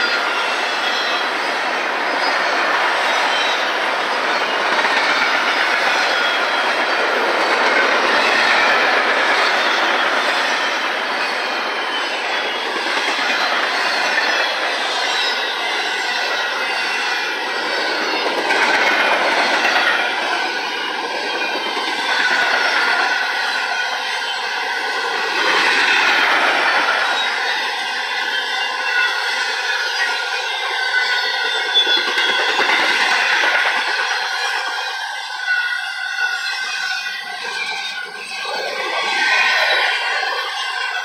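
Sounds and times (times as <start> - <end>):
faint high wheel squeal: 0.0 - 41.0
steel wheels rolling on rail: 0.0 - 41.0.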